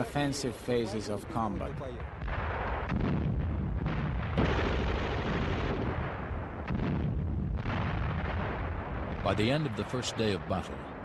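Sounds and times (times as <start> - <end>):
artillery fire and explosions: 1.2 - 11.0.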